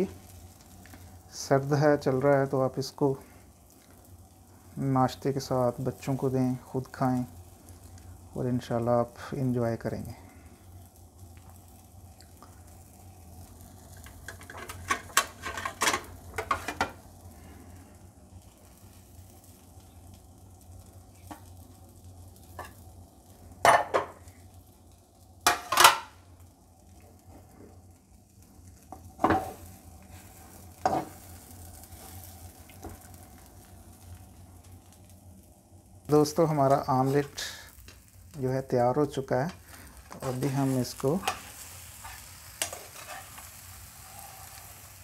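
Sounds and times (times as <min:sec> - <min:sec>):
omelette sizzling: 0:00.0 - 0:45.0.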